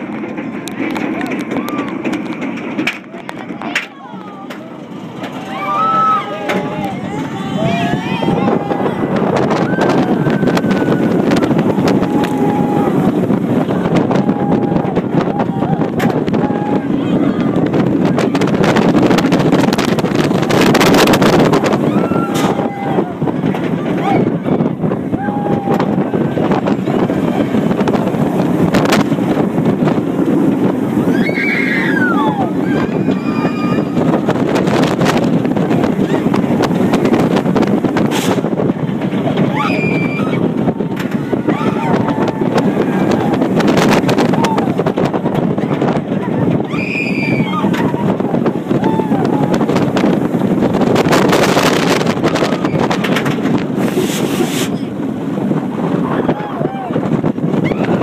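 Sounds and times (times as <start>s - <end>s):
roller coaster rumble: 0.0s - 58.0s
wind buffeting microphone: 0.0s - 58.0s.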